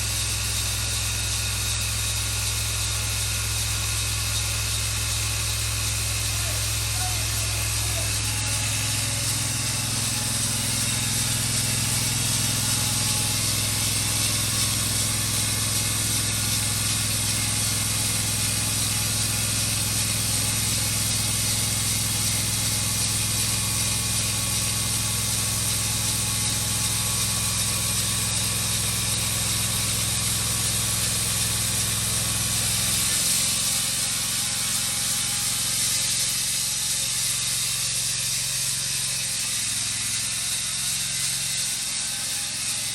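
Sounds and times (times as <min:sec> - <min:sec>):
sawmill engine droning: 0:00.0 - 0:42.9
band saw blade hissing through wood: 0:05.5 - 0:42.9.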